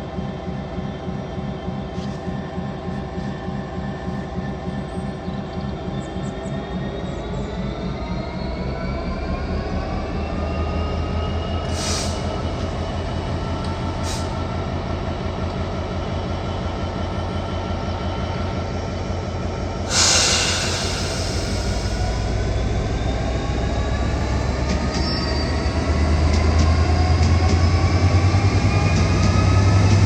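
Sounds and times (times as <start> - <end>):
train rumbling with rising whine: 0.0 - 30.0.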